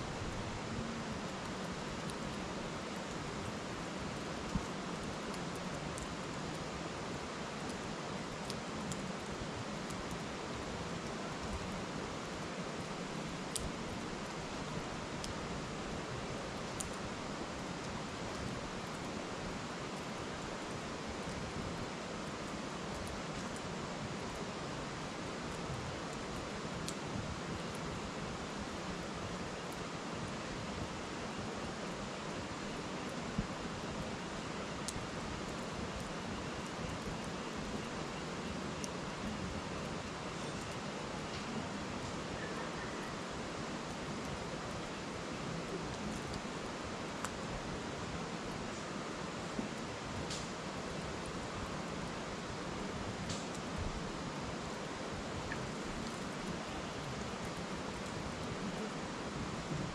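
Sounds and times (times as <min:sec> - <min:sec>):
river rushing: 0:00.0 - 0:59.9
firewood crackling and popping: 0:00.1 - 0:59.9.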